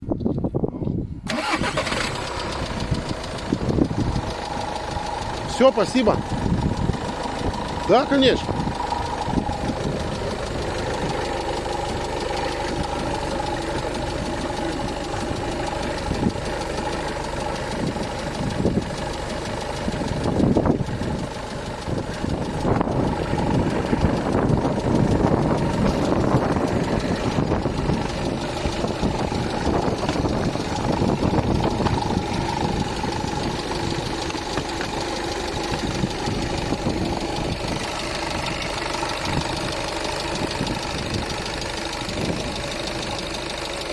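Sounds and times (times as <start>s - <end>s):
diesel engine knocking: 1.3s - 43.9s.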